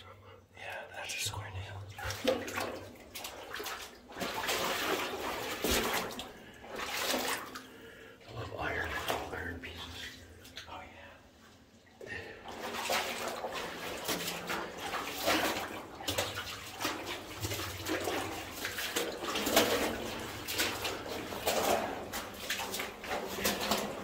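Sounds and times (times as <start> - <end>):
wading through water: 1.4 - 24.0.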